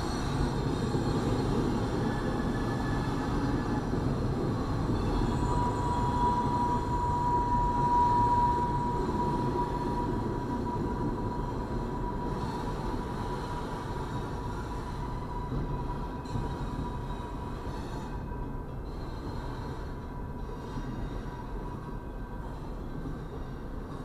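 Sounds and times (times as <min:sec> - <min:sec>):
freight train wheels rumbling: 0:00.0 - 0:24.0
thin steady whine: 0:00.0 - 0:24.0.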